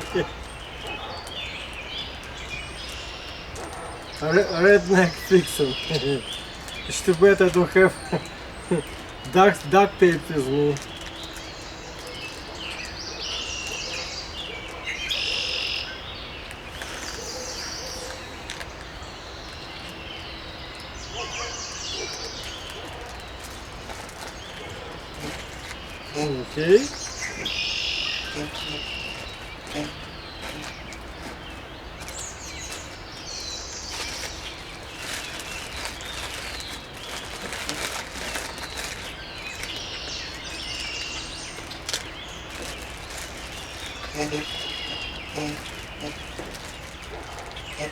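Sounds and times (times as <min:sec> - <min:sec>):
birds chirping and singing: 0:00.0 - 0:47.9
outdoor background noise: 0:00.0 - 0:47.9.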